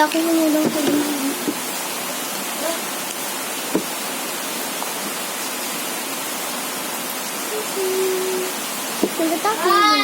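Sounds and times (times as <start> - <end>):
heavy rain hissing: 0.0 - 10.0.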